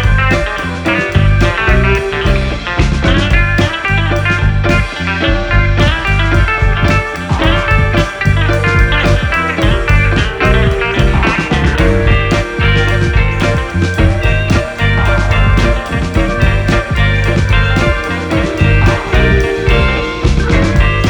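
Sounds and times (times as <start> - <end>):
blues rock music: 0.0 - 21.0.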